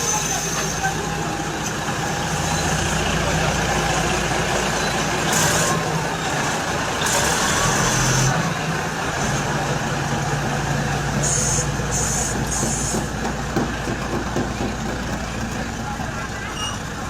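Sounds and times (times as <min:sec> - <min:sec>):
heavy vehicle engine running: 0:00.2 - 0:17.0.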